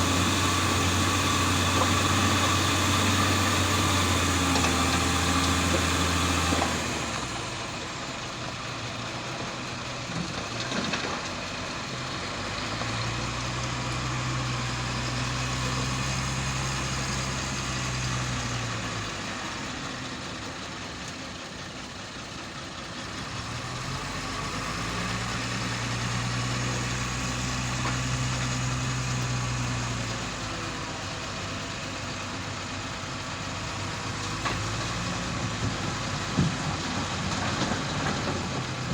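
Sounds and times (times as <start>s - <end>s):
heavy vehicle engine revving: 0.0s - 20.5s, 23.0s - 38.9s
loud low engine sound: 0.0s - 38.9s.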